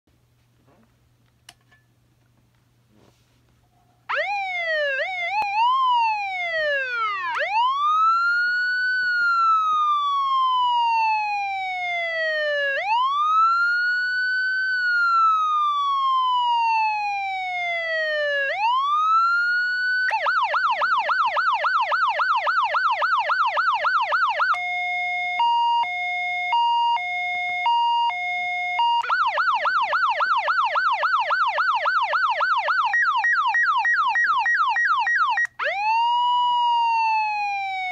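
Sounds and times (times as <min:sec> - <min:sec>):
electronic siren wailing and yelping: 0:04.1 - 0:37.9.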